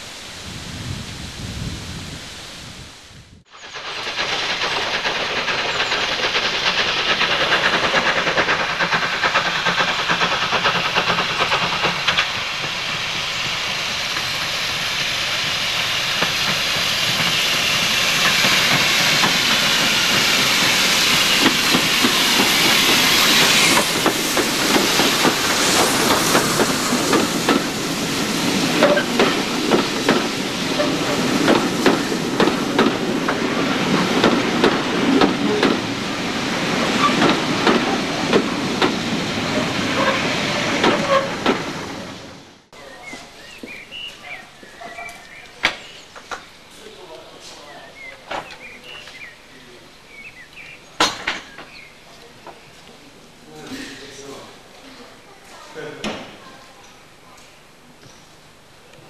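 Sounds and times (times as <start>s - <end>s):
steam hissing: 3.4s - 57.1s
train wheels clicking over joints: 3.6s - 42.1s, 43.0s - 49.4s, 50.1s - 53.0s.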